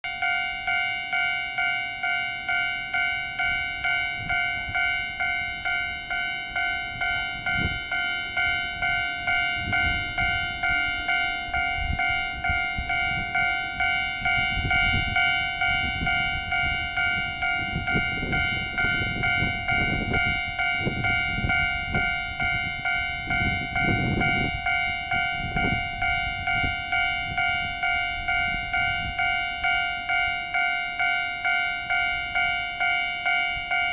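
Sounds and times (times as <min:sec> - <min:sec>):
level-crossing warning bell: 0:00.0 - 0:33.9.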